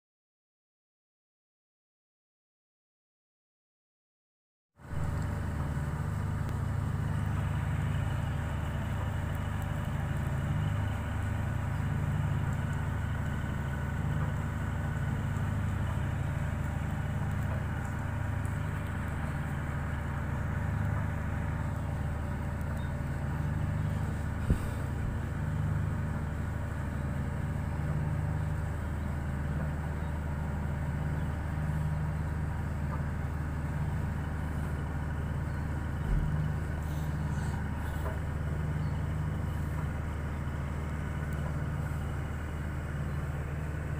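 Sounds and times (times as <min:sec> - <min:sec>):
ship engine rumbling: 0:04.8 - 0:43.9.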